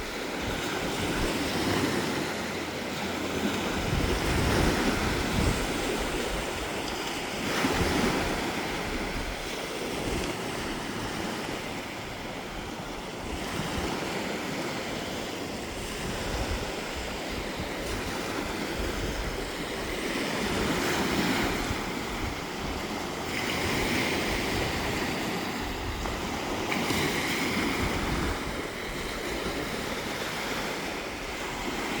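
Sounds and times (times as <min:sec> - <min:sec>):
waves breaking on beach: 0:00.0 - 0:32.0
wind rumbling on microphone: 0:00.0 - 0:32.0.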